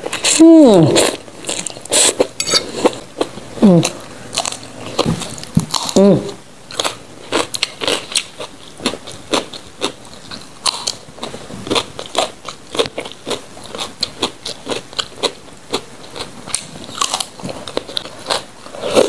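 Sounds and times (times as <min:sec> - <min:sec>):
soft chewing: 0:01.0 - 0:19.0.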